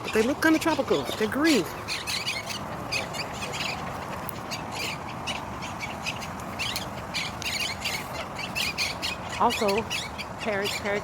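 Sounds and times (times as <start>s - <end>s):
parakeets squawking: 0.0s - 11.0s.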